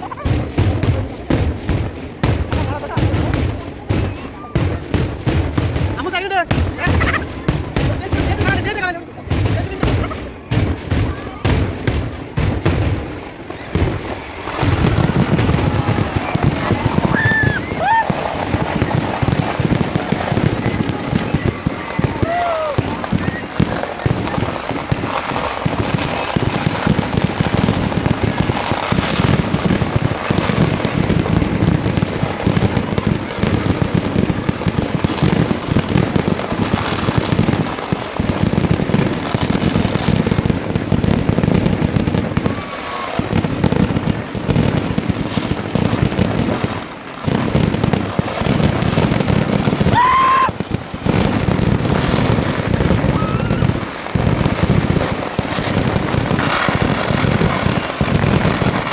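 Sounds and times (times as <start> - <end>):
firecracker explosions: 0.0 - 58.9.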